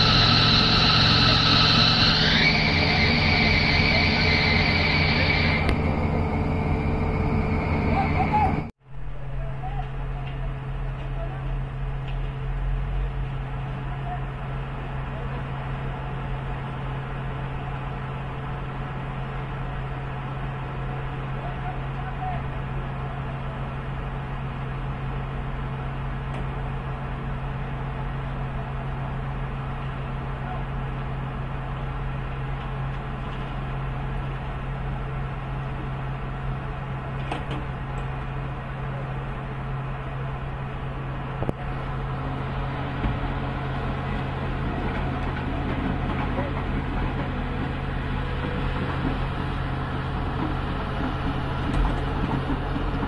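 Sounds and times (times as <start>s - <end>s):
excavator diesel engines humming: 0.0s - 53.0s.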